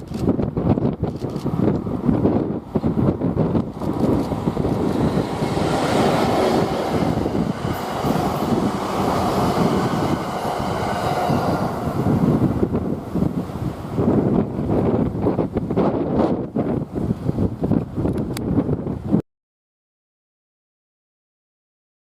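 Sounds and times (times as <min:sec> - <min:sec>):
train wheels rumbling on rail: 0:00.0 - 0:19.0
wind buffeting microphone: 0:00.0 - 0:19.2.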